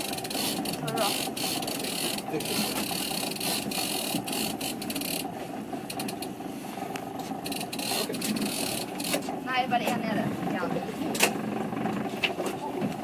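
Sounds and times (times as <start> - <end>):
fishing reel gears whirring: 0.0 - 12.6
steady low hum: 0.0 - 13.0.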